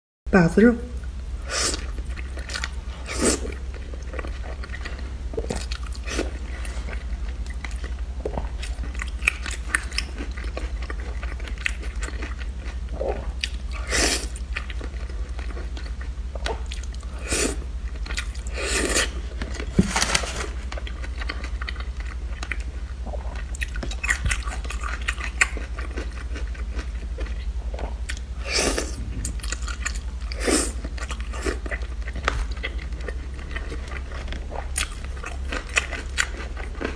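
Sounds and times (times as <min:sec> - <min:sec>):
steady low hum: 0:00.3 - 0:36.9
biting and chewing soft food: 0:01.0 - 0:36.9.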